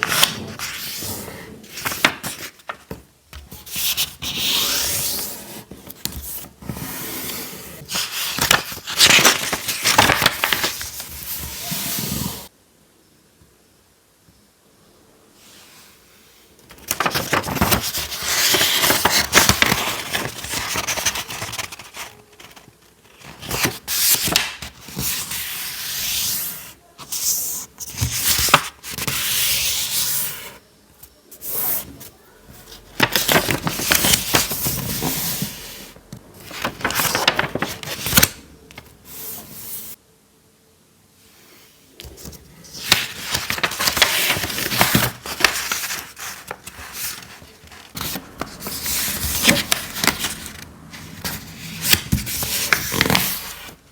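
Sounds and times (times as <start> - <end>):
paper rustling and folding: 0.0 - 12.5, 16.6 - 40.0, 41.9 - 53.9.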